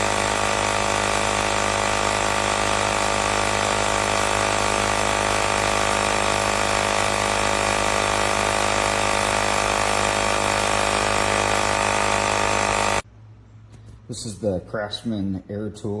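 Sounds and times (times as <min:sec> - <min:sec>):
air compressor running: 0:00.0 - 0:14.3.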